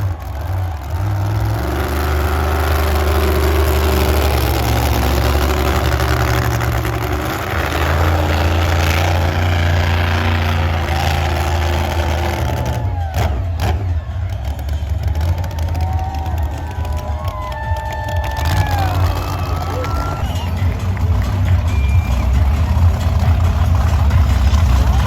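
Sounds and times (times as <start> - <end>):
monster truck engine running: 0.0 - 25.0.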